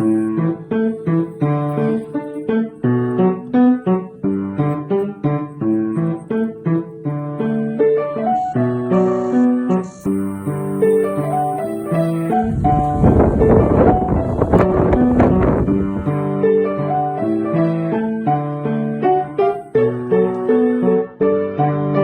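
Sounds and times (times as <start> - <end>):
instrumental piano music: 0.0 - 22.0.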